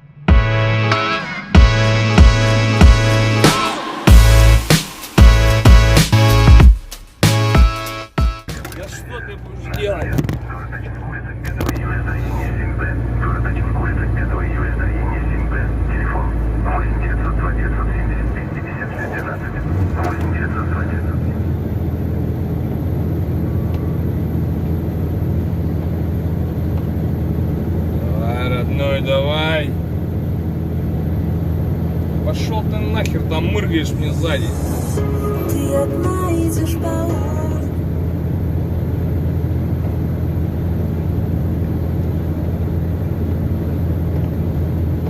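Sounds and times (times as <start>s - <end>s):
truck diesel engine droning: 0.0s - 6.6s, 7.3s - 45.0s.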